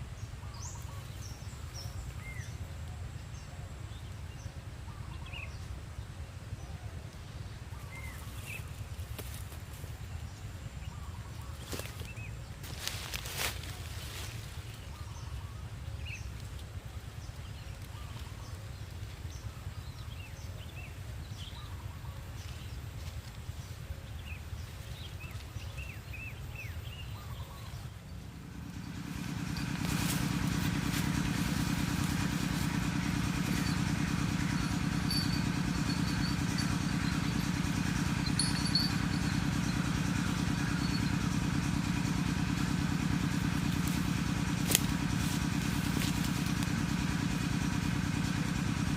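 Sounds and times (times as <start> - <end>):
low motor-like drone: 0.0 - 48.9.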